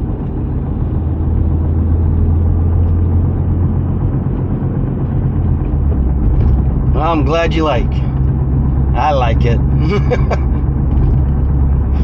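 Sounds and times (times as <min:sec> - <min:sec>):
low engine drone: 0:00.0 - 0:12.0
tyre and road noise: 0:00.0 - 0:12.0.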